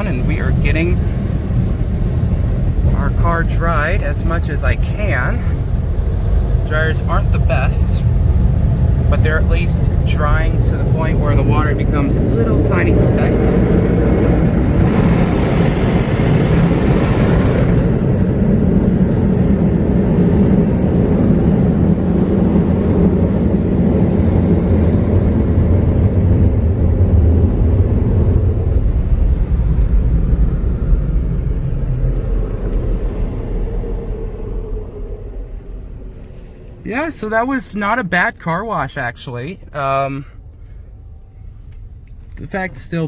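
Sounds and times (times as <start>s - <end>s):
car wash dryers blowing air: 0.0s - 43.0s.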